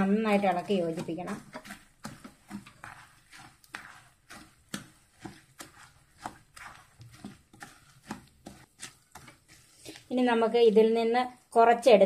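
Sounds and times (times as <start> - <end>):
wooden spatula scraping a pan: 0.0 - 10.9.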